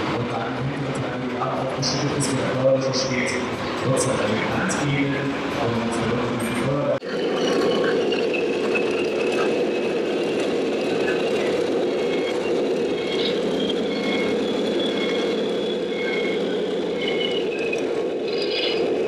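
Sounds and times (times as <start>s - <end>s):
faint high whine: 0.2s - 19.0s.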